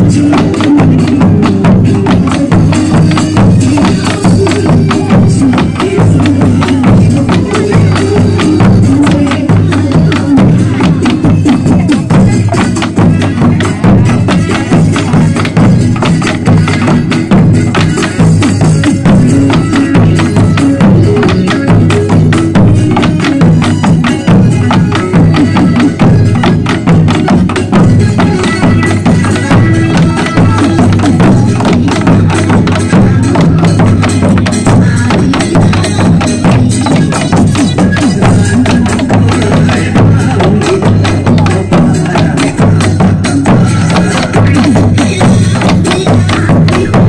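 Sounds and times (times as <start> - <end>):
barrel drums beaten with sticks: 0.0 - 47.0
music: 0.0 - 47.0.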